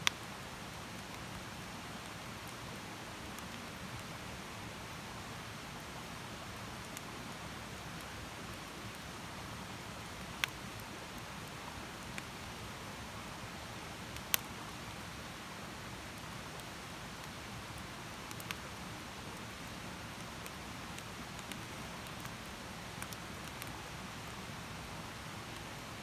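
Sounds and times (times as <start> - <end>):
campfire hissing: 0.0 - 26.0.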